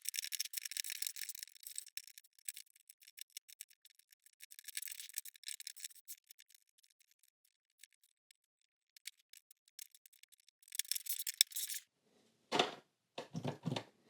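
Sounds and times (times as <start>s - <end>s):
plastic pieces clicking: 0.0s - 8.4s, 9.0s - 11.8s
plastic pieces scraping and rattling: 0.0s - 11.8s.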